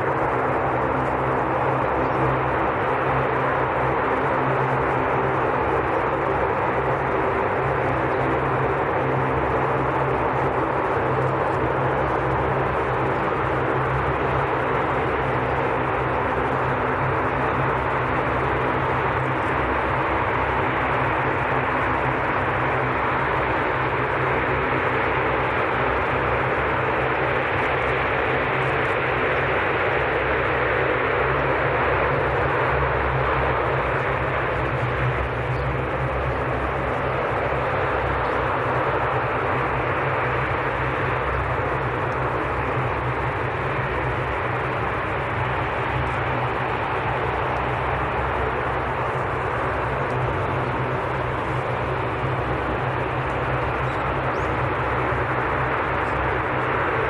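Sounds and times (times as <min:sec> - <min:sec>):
aircraft engines running: 0:00.0 - 0:57.0.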